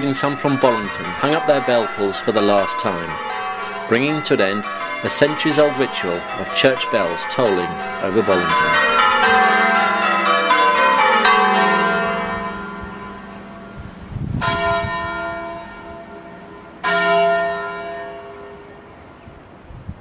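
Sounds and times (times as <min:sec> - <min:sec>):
church bells ringing: 0:00.0 - 0:19.2.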